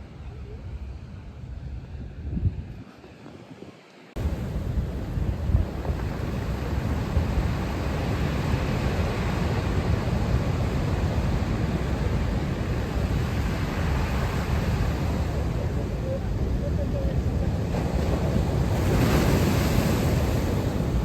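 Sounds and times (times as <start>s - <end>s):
wind buffeting microphone: 0.0s - 21.0s
ocean surf: 2.8s - 21.0s.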